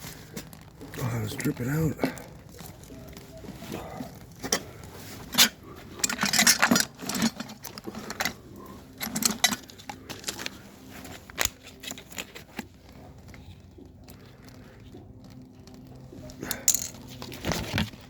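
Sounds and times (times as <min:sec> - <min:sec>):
metal tools clinking and scraping: 0:01.2 - 0:13.6, 0:15.7 - 0:17.8.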